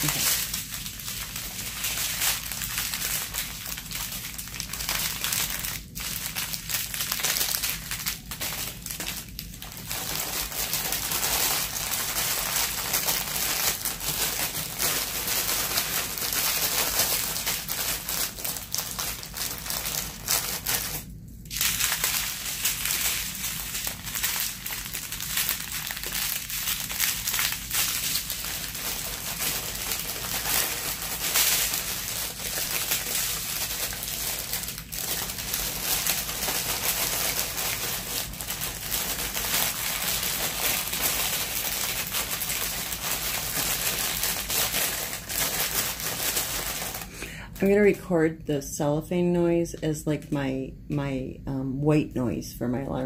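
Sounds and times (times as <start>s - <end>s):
plastic packaging crinkling: 0.0s - 48.0s.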